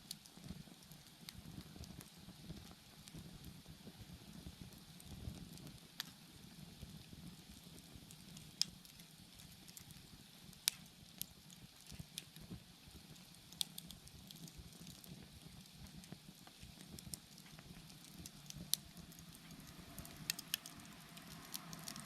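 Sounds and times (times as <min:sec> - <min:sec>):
bonfire crackling and popping: 0:00.0 - 0:22.0
low rumble of flames: 0:00.0 - 0:22.0.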